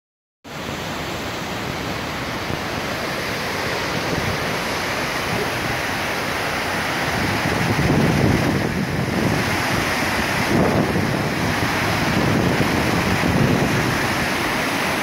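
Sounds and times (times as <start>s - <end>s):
waterfall rushing: 0.5s - 15.0s.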